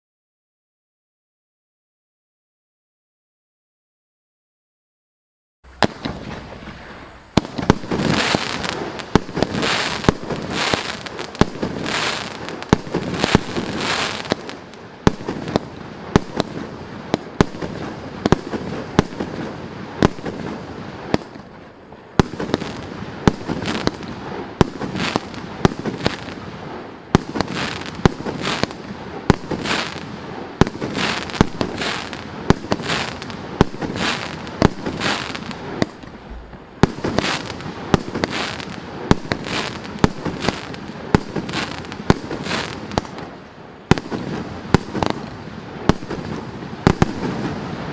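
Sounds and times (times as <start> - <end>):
fireworks bangs: 5.6 - 47.9
fireworks crackling: 5.6 - 47.9.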